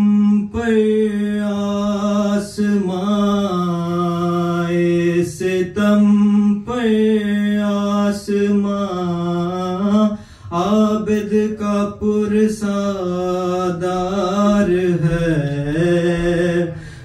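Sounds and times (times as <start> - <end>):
man singing a mourning lament: 0.0 - 17.0.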